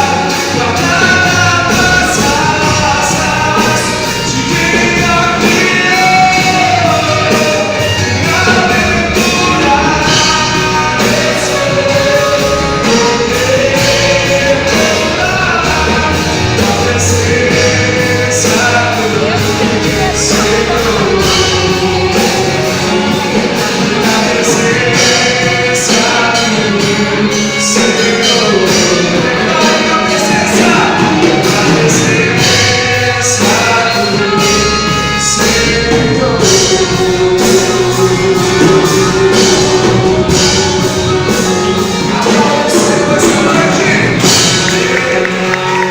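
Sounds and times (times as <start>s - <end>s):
gospel band playing: 0.0s - 45.9s
person singing: 0.0s - 45.9s
steady drum beat: 0.0s - 45.9s.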